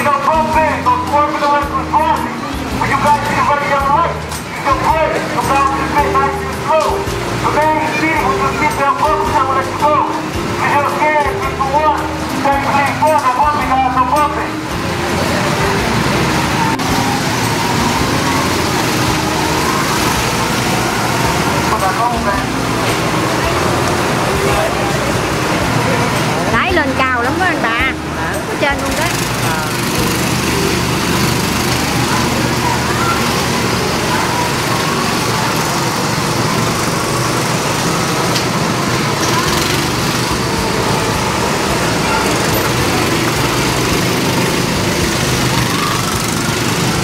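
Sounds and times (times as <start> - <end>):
go-kart engines droning: 0.0 - 47.0.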